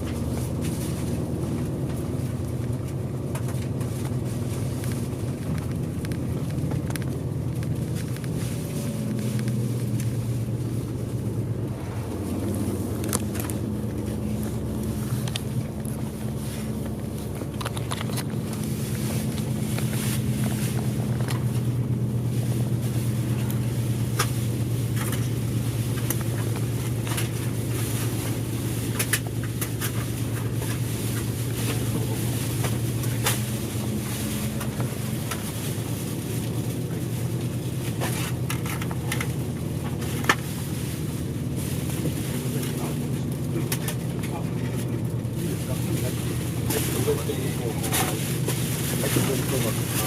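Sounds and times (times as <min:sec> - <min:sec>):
bus diesel engine running: 0:00.0 - 0:50.0
road noise: 0:00.0 - 0:50.0.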